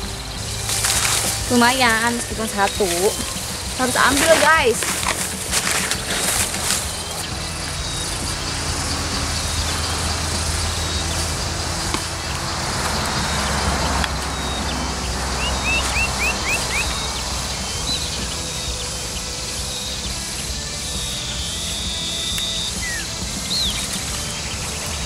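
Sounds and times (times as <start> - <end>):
bird chirping: 0.0 - 25.0
rustling through undergrowth: 0.0 - 25.0.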